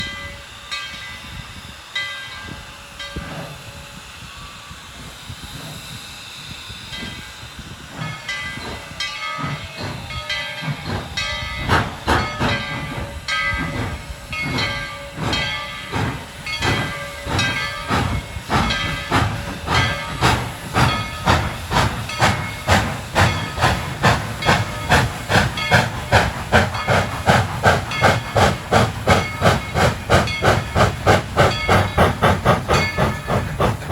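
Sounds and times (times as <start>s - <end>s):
steam locomotive hissing steam: 0.0s - 33.9s
locomotive exhaust chuffs: 3.2s - 33.9s.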